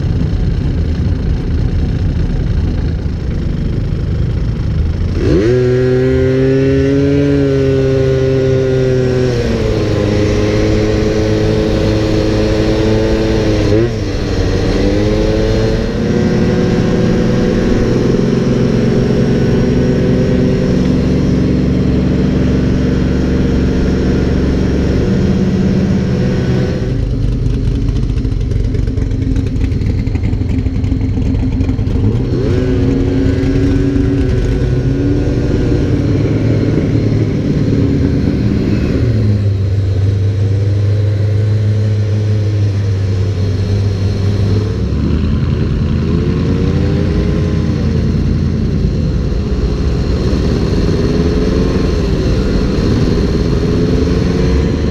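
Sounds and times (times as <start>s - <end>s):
vehicle engines revving: 0.0s - 54.9s.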